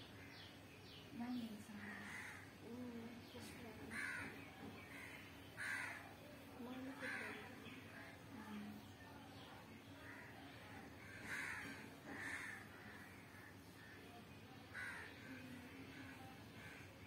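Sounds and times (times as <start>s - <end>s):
birds calling: 0.0s - 8.8s, 10.0s - 17.0s.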